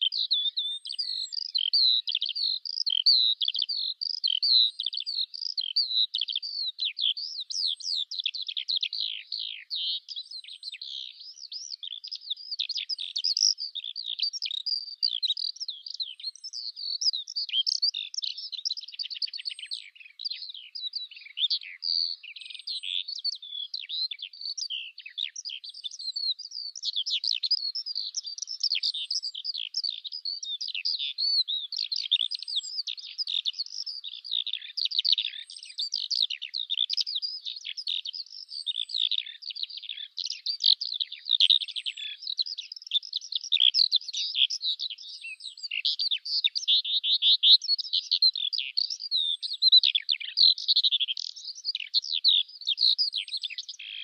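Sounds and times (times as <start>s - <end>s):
skylark singing: 0.0s - 54.0s.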